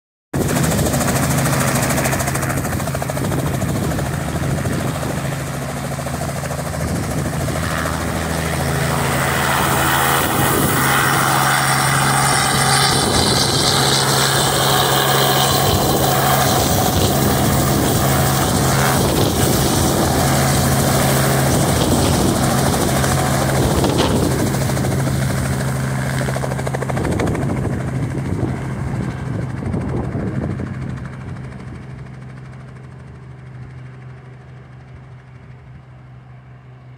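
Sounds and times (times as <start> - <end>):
helicopter rotor beat and engine: 0.4 - 36.9.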